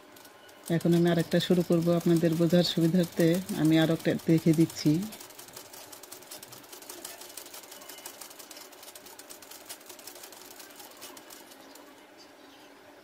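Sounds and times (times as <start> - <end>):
sewing machine stitching: 0.0 - 11.9.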